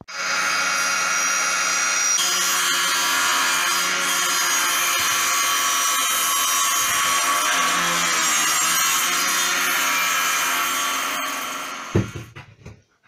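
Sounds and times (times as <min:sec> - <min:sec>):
woodworking machine planing board: 0:00.0 - 0:12.4.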